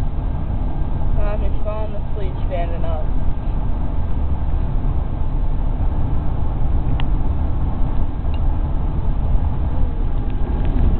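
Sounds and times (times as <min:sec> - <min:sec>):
car cabin road and engine rumble: 0:00.0 - 0:10.9.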